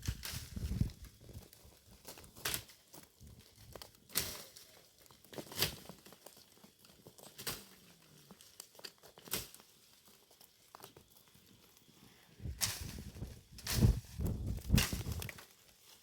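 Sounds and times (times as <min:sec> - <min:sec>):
dry leaves and twigs crunching: 0:00.0 - 0:16.0.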